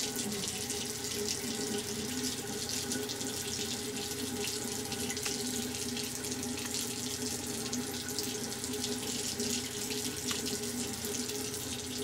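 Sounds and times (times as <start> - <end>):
faucet running water into sink: 0.0 - 12.0.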